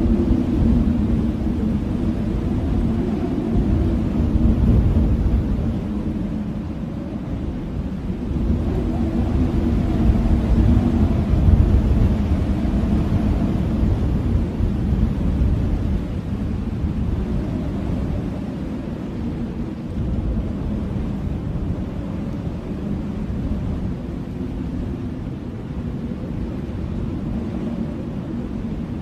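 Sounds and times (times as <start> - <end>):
blizzard wind blowing hard: 0.0 - 29.0.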